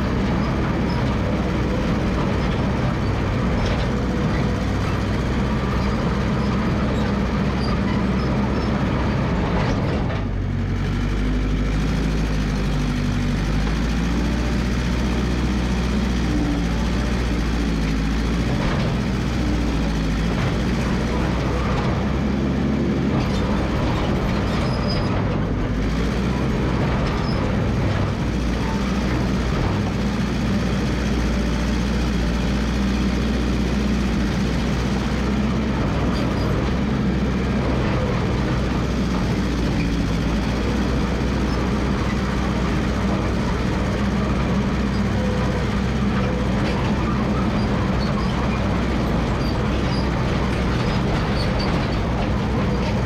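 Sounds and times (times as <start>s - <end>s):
bulldozer engine hum: 0.0s - 53.0s.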